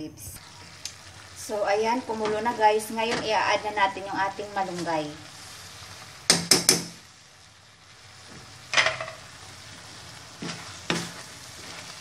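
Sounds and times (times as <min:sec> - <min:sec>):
food sizzling in a wok: 0:00.3 - 0:12.0.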